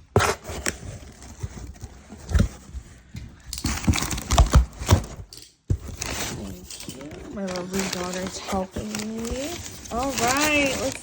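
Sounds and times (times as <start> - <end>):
packaging rustling: 0.2 - 11.0.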